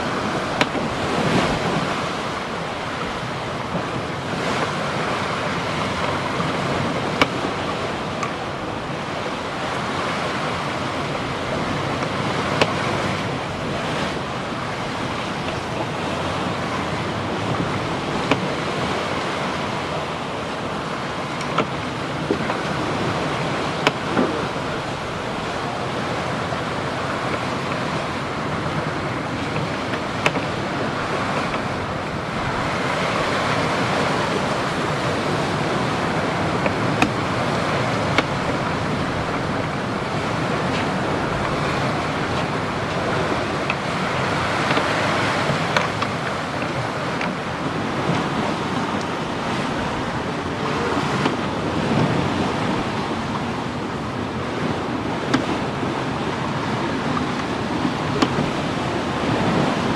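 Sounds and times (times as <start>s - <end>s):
water rushing along hull: 0.0s - 59.9s
wind: 0.0s - 59.9s.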